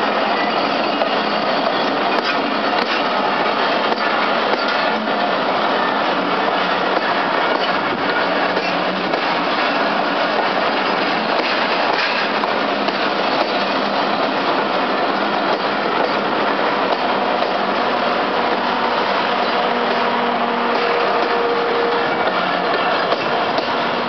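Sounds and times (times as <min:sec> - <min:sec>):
train wheels on rails: 0:00.0 - 0:24.0.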